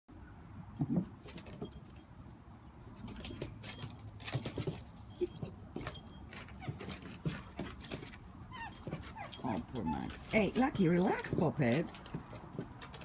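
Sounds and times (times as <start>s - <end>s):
collar tags jingling: 0.7s - 13.0s.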